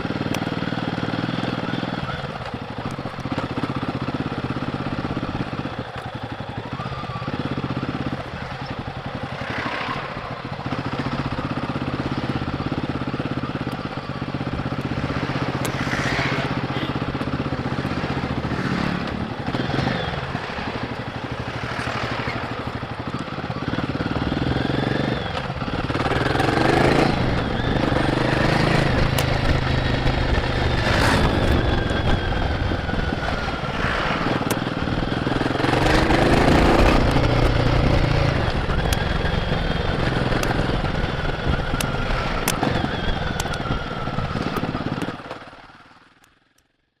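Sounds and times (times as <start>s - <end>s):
wind and road noise: 0.0s - 46.5s
motorcycle engine running: 0.0s - 47.0s.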